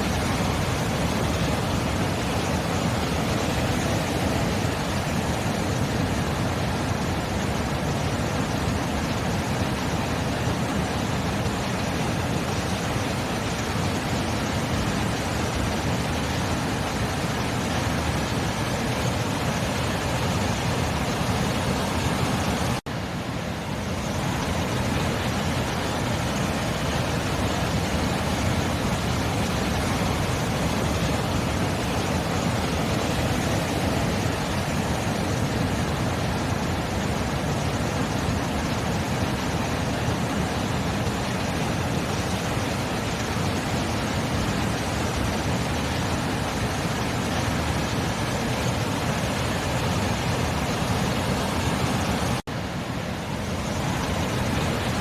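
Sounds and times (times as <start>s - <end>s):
sea surf wash: 0.0s - 55.0s.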